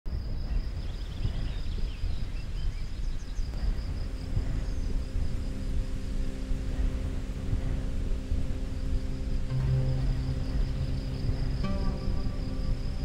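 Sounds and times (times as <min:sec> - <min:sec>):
small birds chirping: 0:00.1 - 0:13.0
wind buffeting microphone: 0:00.1 - 0:13.0
soft background music: 0:00.5 - 0:13.0.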